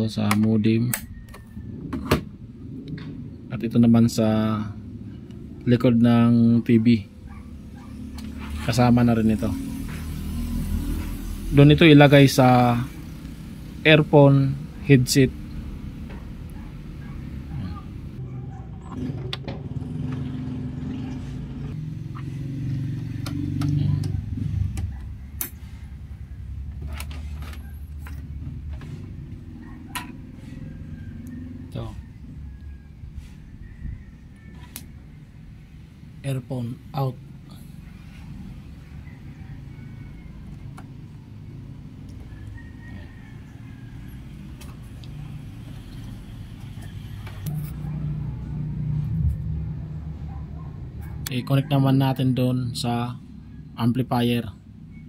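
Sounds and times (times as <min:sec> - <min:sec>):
passing vehicle engine rumble: 0:00.9 - 0:55.0.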